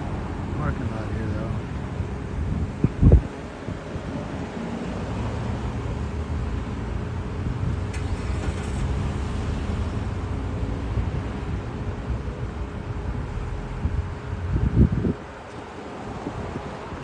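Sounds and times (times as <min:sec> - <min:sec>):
low rumble of vehicles: 0:00.0 - 0:17.0.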